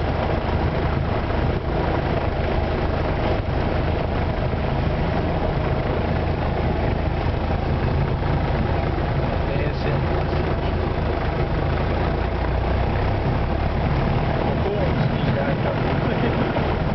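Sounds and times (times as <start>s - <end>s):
light aircraft engine drone: 0.0s - 16.9s.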